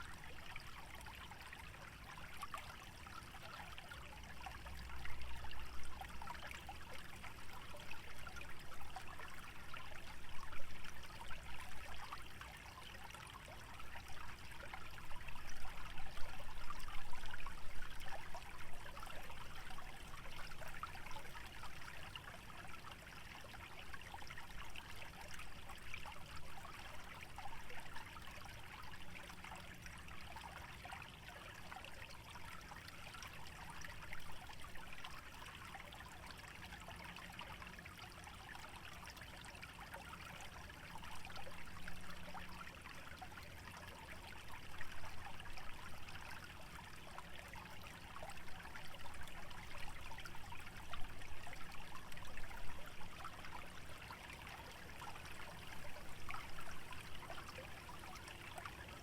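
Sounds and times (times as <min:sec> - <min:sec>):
stream trickling and burbling: 0:00.0 - 0:59.0.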